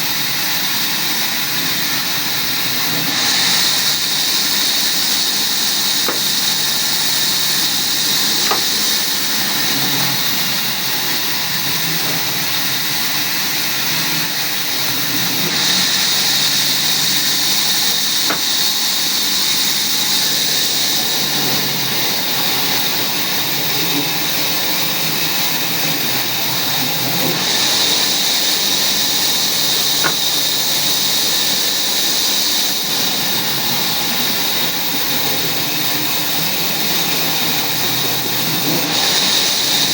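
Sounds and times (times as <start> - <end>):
woodworking machine whirring: 0.0 - 39.9.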